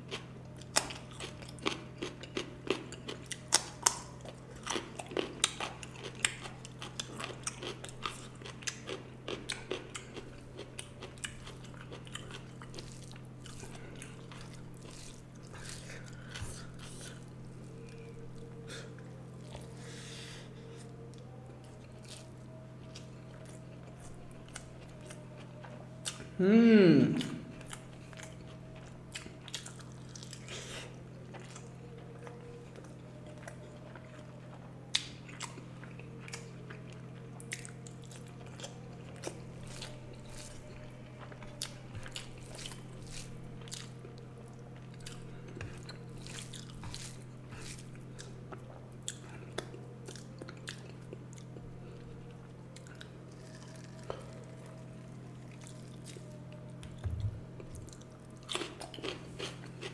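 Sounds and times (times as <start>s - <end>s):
chewing and smacking: 0.0s - 19.8s, 20.8s - 26.4s, 27.2s - 59.9s
steady low hum: 0.0s - 59.9s.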